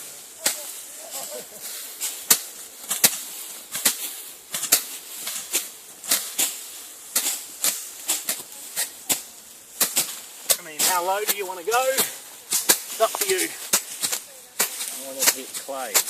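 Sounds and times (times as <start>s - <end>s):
machete slicing through grass: 0.3s - 16.0s.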